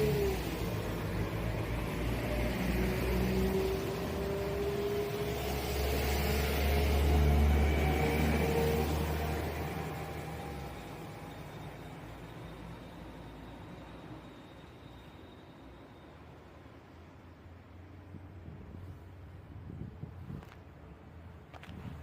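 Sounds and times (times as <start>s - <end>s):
train engine whine: 0.0s - 19.5s
low train rumble: 0.0s - 22.0s.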